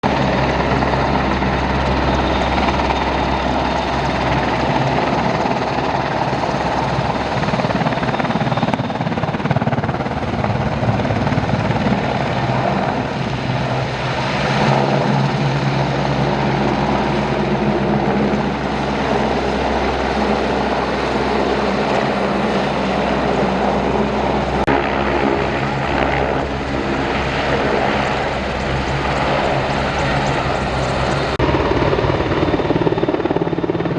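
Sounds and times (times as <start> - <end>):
aircraft engine drone: 0.0 - 33.9.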